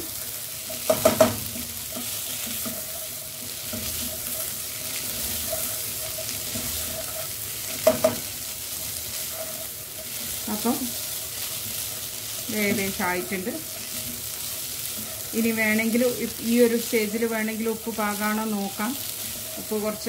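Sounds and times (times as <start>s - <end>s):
food sizzling in a pot: 0.0s - 20.0s.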